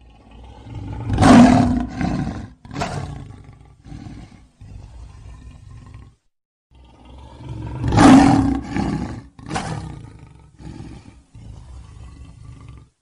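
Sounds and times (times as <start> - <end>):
lion low calls: 0.0 - 6.2, 6.8 - 13.0
lion roaring: 0.0 - 13.0.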